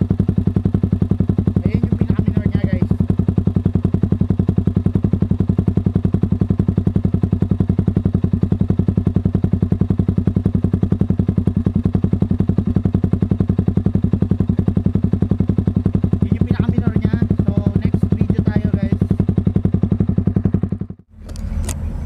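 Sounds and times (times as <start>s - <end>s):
motorcycle idling: 0.0s - 22.0s.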